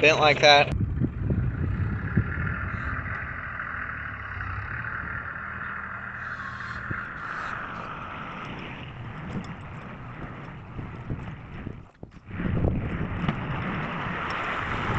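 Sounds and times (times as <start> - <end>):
tractor engine idling: 0.0 - 14.9.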